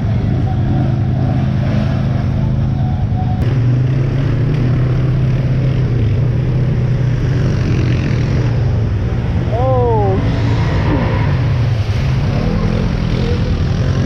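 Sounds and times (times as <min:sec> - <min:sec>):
atv engine running: 0:00.0 - 0:10.8, 0:11.6 - 0:14.0.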